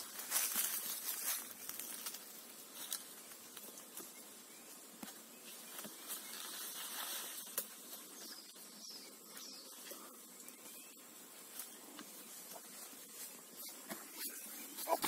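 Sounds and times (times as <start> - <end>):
insects buzzing: 0.0 - 15.0
rustling of leaves: 0.0 - 15.0.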